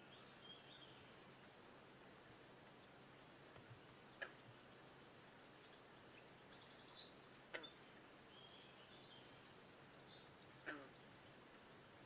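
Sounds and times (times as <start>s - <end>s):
low background hiss: 0.0s - 12.0s
small birds chirping: 0.0s - 12.0s.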